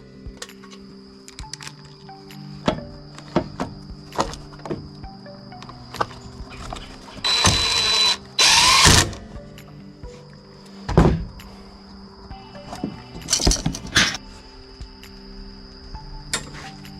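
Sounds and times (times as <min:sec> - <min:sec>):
background music: 0:00.0 - 0:16.9.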